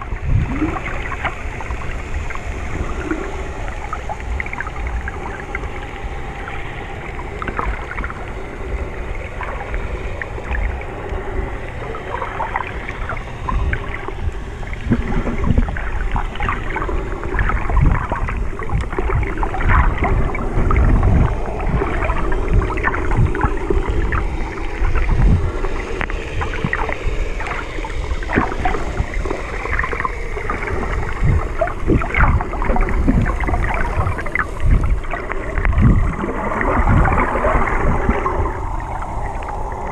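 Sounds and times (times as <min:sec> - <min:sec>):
underwater crackles and pops: 0:00.0 - 0:39.9
underwater rumble and sloshing: 0:00.0 - 0:39.9.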